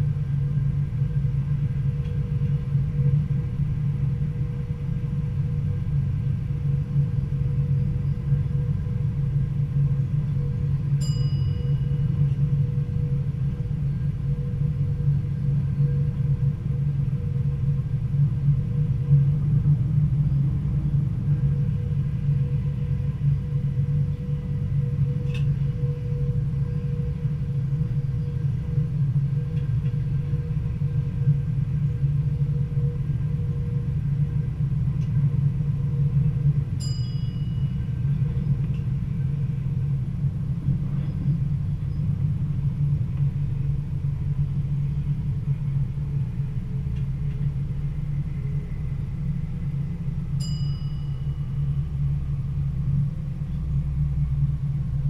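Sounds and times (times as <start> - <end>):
steady hum: 0.0 - 55.0
train rumbling: 0.0 - 55.0.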